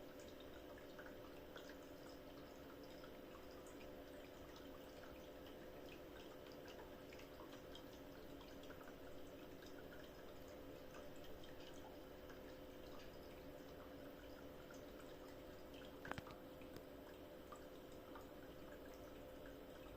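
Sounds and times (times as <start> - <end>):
faint steady hum: 0.0 - 19.9
water drips and gurgles: 0.0 - 19.9.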